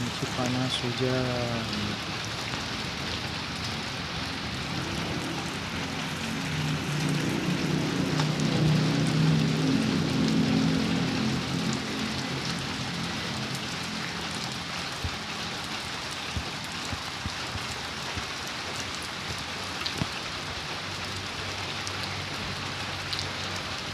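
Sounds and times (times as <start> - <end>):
raindrops tapping: 0.0 - 23.9
steady rain falling: 0.0 - 23.9.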